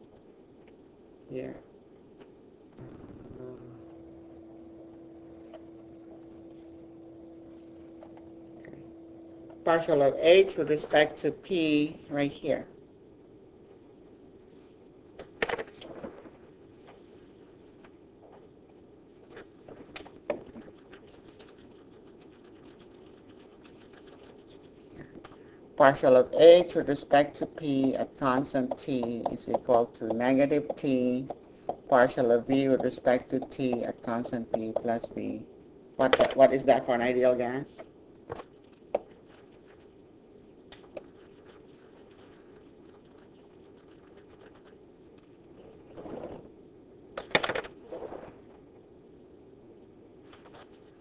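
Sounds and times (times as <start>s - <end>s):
faint room hum: 0.0s - 51.0s.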